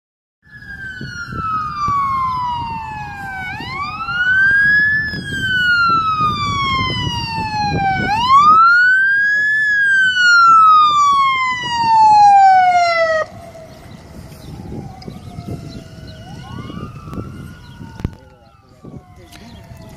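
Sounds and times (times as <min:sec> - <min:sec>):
emergency vehicle siren wailing: 0:00.4 - 0:19.9
engine and road rumble: 0:00.4 - 0:19.9
faint second siren wailing: 0:00.4 - 0:19.9.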